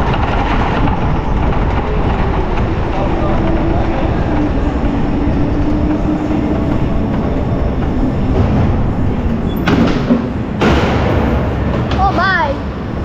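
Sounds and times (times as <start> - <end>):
go-kart rumble: 0.0 - 13.0.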